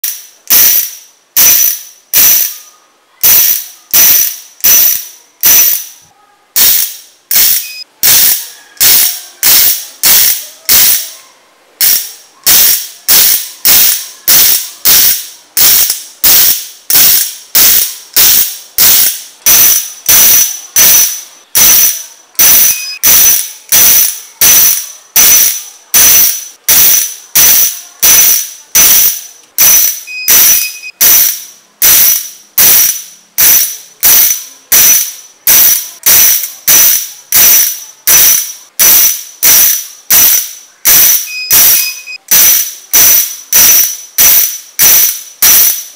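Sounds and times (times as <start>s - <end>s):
bike hub ratchet clicking: 0.0s - 11.2s, 11.8s - 45.9s.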